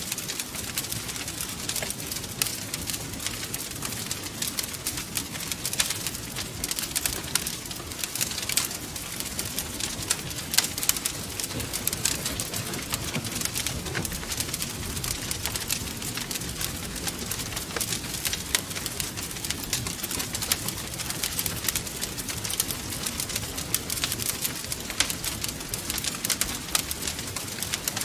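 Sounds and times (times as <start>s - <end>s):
low rumble of burning logs: 0.0s - 28.0s
wood fire crackling: 0.0s - 28.0s.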